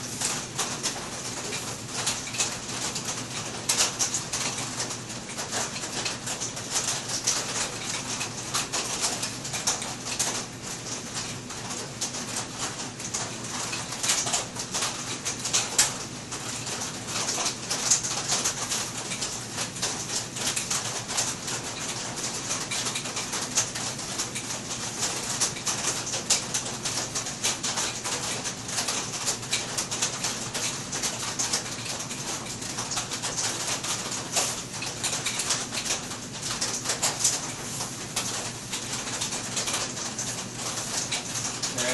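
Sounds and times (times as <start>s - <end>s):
rain on a roof: 0.0s - 41.9s.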